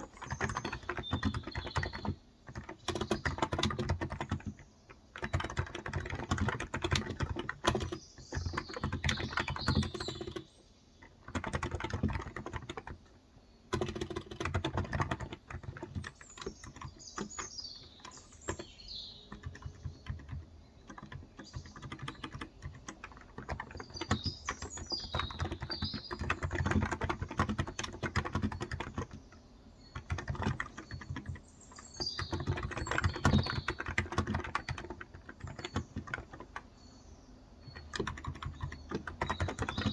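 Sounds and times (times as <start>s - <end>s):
fast keyboard typing: 0.0s - 36.8s, 37.6s - 39.9s
birds chirping: 0.0s - 39.9s.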